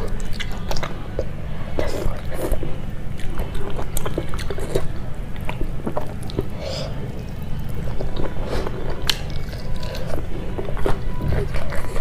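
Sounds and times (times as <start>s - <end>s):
close chewing with mouth smacks: 0.0s - 12.0s.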